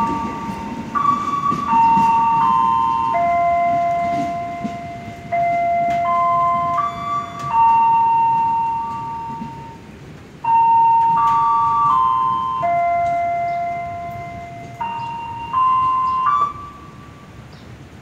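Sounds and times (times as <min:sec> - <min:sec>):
loudspeaker chime melody: 0:00.0 - 0:09.8, 0:10.4 - 0:17.3
train rumble: 0:00.0 - 0:18.0.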